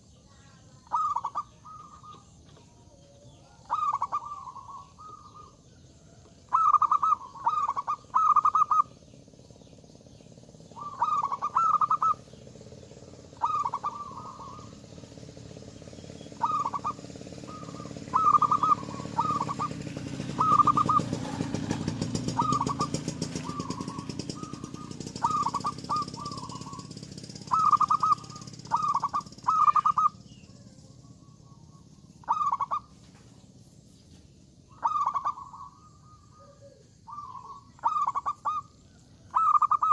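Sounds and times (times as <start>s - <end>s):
dove cooing: 0.0s - 9.1s, 10.6s - 12.4s, 13.0s - 33.1s, 34.7s - 39.9s.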